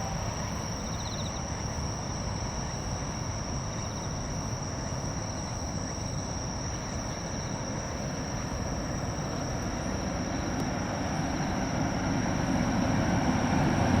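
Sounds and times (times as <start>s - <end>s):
electric train rumble: 0.0s - 14.0s
insects trilling: 0.0s - 14.0s.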